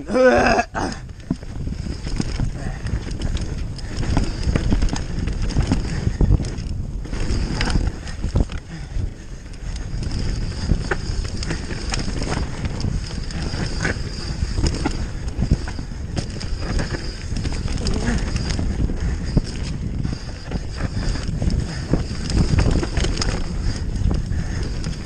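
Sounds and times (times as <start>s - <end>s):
bike rattling over bumps: 0.0s - 25.0s
tyres rumbling over dirt: 0.0s - 25.0s
wind buffeting microphone: 0.0s - 25.0s.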